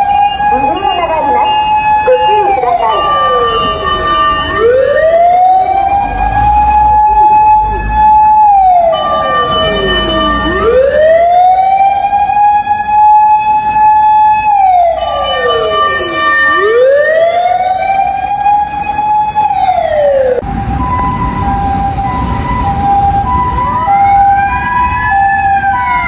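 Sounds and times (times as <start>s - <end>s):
mechanical siren wailing: 0.0s - 26.0s.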